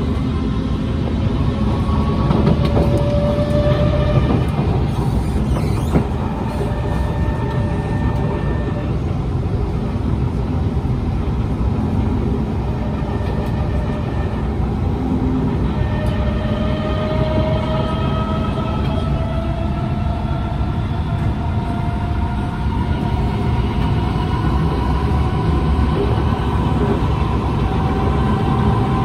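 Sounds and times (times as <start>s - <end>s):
train wheels and motors rumbling: 0.0s - 29.0s.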